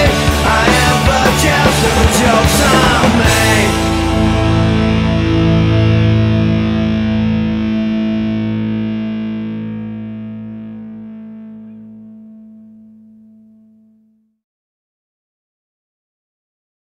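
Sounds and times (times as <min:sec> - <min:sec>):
rock music held chord: 0:00.0 - 0:14.0.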